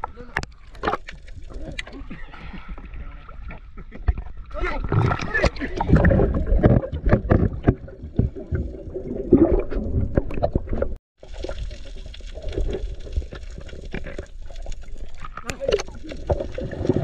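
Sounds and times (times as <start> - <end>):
water gurgling and sloshing: 0.0 - 17.0.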